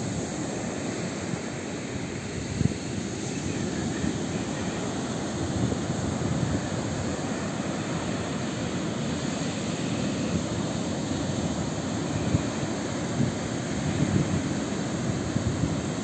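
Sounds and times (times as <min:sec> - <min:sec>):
waves breaking on shore: 0:00.0 - 0:16.0
wind rumbling on microphone: 0:02.2 - 0:16.0.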